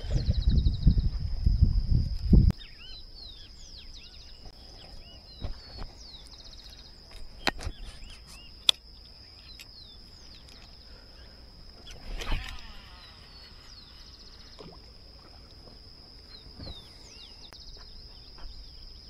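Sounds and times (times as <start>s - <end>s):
high-pitched insect drone: 0.0s - 19.0s
birds chirping: 2.5s - 14.8s, 15.9s - 19.0s.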